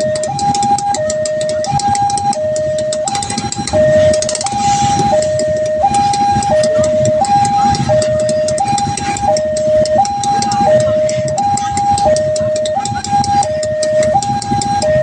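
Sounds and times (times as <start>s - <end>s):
level-crossing two-tone siren: 0.0s - 15.0s
rapid high ticking: 0.0s - 15.0s
road traffic rumble: 0.0s - 15.0s.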